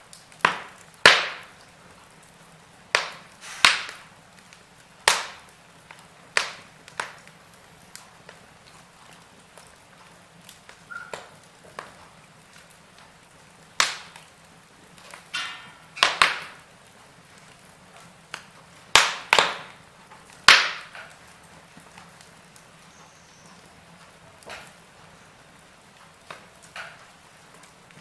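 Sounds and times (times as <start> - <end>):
faint hiss of fire: 0.0 - 28.0
wood fire crackling and popping: 0.0 - 28.0.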